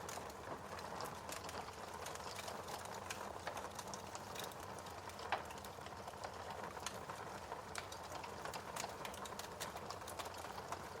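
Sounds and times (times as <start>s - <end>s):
fire crackling: 0.0s - 11.0s.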